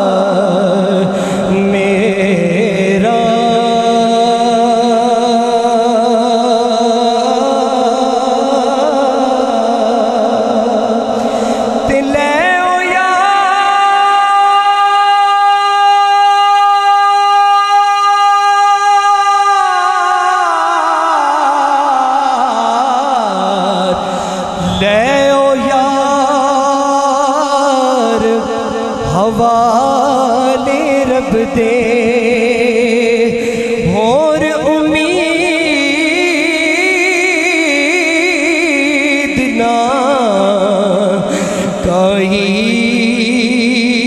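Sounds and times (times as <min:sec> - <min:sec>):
man singing into a microphone: 0:00.0 - 0:44.0.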